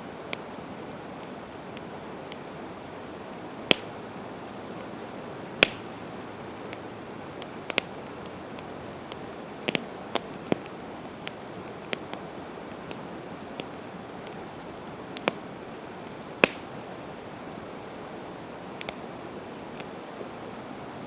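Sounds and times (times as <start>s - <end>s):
campfire crackles and pops: 0.0s - 21.0s
fire hissing: 0.1s - 20.8s.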